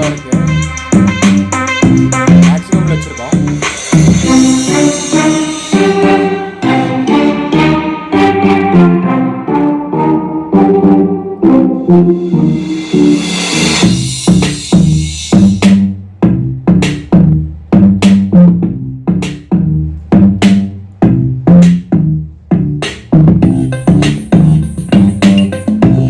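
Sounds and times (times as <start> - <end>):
loud electronic music: 0.0 - 22.0, 22.8 - 26.0.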